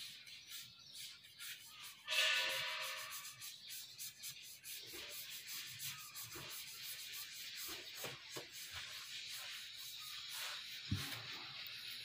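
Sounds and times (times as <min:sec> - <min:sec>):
brush scrubbing wood: 0:00.0 - 0:12.0.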